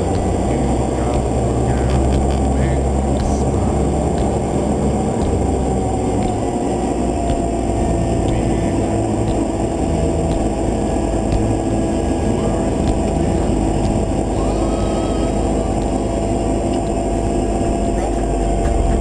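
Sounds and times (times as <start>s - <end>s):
aircraft engine idling: 0.0s - 19.0s
faint ticking: 0.0s - 19.0s.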